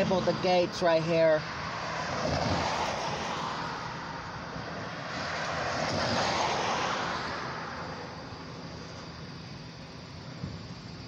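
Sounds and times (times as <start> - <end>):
minivan driving by: 0.0 - 11.0
road traffic noise: 0.0 - 11.0.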